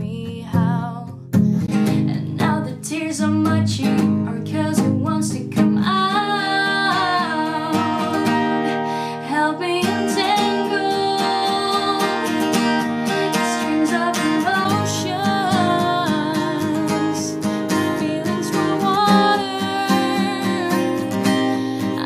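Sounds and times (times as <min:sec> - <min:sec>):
woman singing: 0:00.0 - 0:22.0
acoustic guitar strumming: 0:00.2 - 0:22.0.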